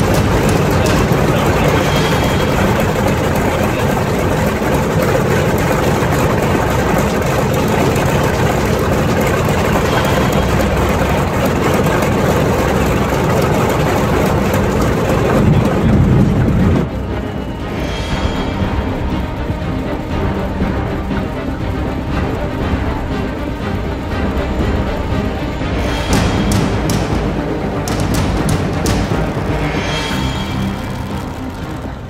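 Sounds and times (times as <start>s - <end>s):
radial aircraft engine droning: 0.0s - 32.0s.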